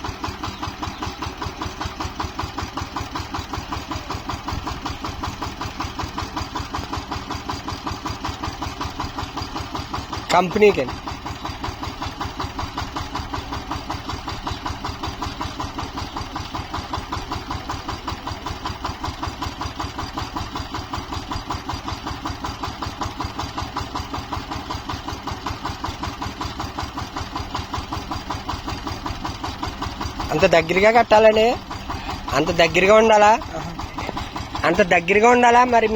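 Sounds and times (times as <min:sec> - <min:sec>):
tractor engine idling: 0:00.0 - 0:35.9.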